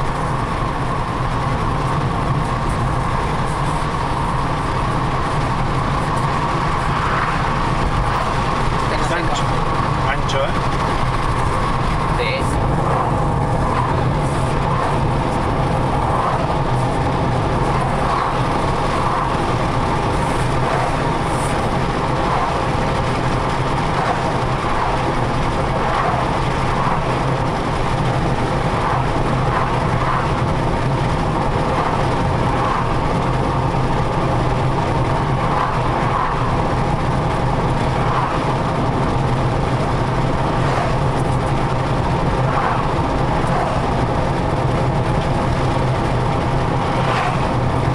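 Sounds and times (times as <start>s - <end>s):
car engine and tyre noise: 0.0s - 47.9s.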